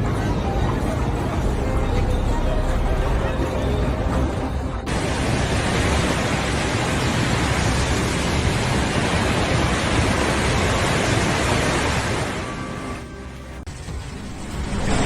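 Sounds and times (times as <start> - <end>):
wind and rain rushing: 0.0 - 15.0.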